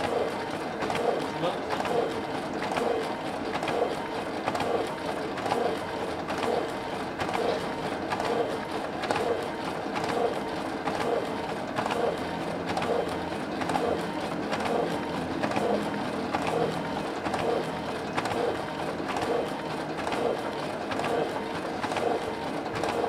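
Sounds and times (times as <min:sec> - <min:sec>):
photocopier click and whir: 0:00.0 - 0:23.0
photocopier hum: 0:00.0 - 0:23.0.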